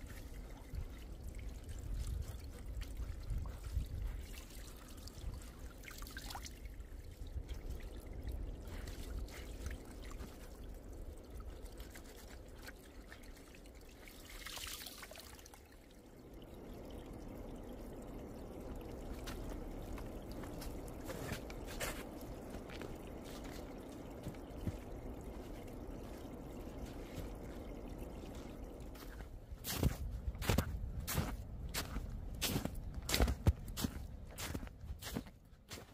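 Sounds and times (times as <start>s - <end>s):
water trickling and dripping: 0.0s - 35.9s.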